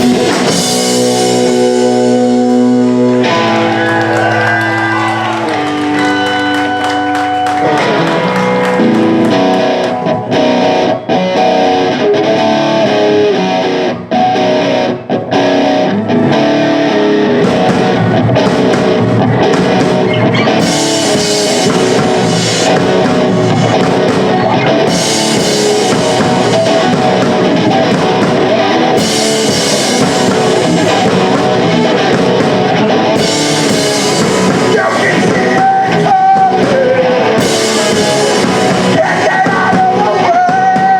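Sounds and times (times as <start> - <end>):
punk rock band playing: 0.0 - 40.9.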